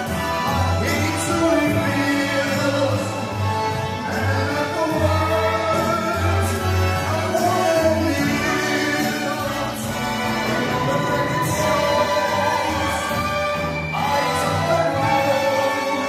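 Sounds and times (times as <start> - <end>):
people singing: 0.0 - 3.4, 4.0 - 16.0
low bass line: 0.0 - 16.0.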